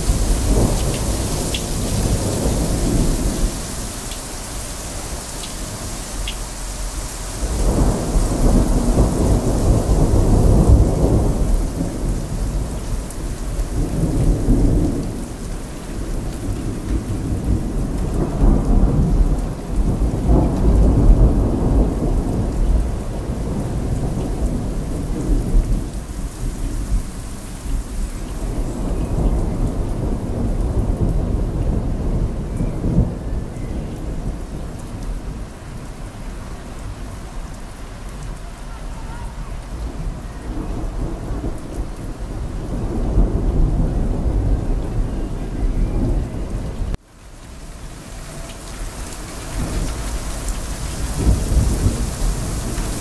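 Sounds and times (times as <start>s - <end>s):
thunder rumbling: 0.0s - 47.0s, 47.7s - 53.0s
steady rain: 0.0s - 53.0s.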